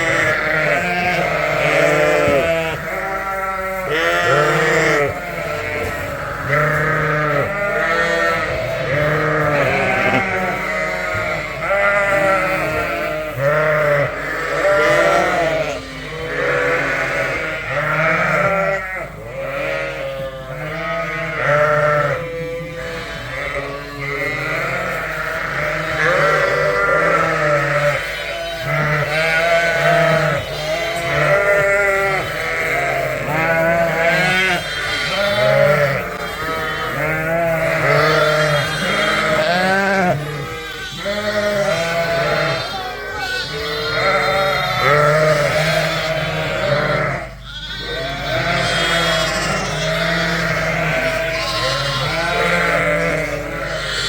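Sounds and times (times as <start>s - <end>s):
sheep and lambs bleating: 0.0s - 54.0s.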